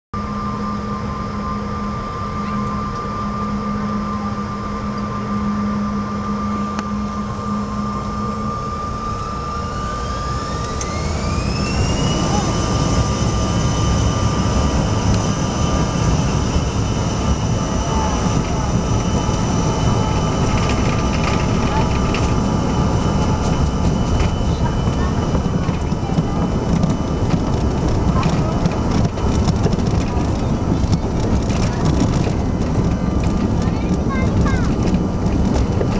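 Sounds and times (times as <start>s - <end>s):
jet engines humming and whining: 0.2s - 35.9s
jet engines spooling up: 0.2s - 35.9s.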